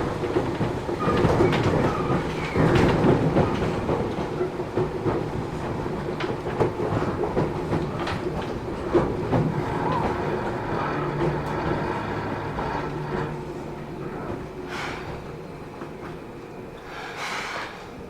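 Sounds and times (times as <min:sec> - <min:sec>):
train rolling and motor noise: 0:00.0 - 0:18.0
wheels clicking over rail joints: 0:00.2 - 0:16.2.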